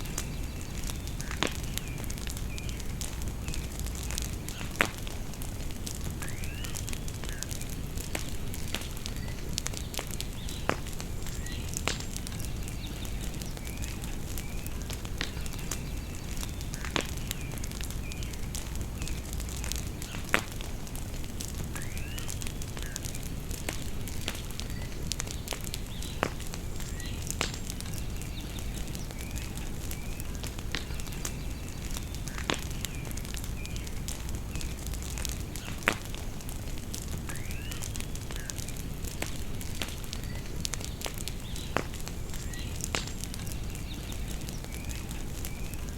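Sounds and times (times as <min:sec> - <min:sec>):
birds chirping: 0:00.0 - 0:45.9
bonfire crackling and popping: 0:00.0 - 0:45.9.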